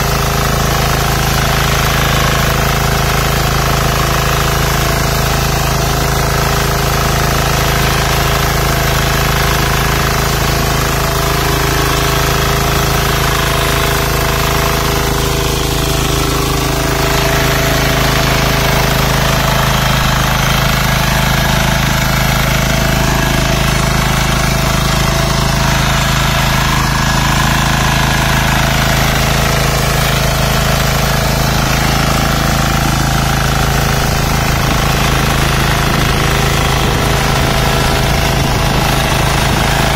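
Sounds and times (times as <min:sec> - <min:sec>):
diesel engine knocking under load: 0:00.0 - 0:39.9
tines churning through mud: 0:00.0 - 0:39.9.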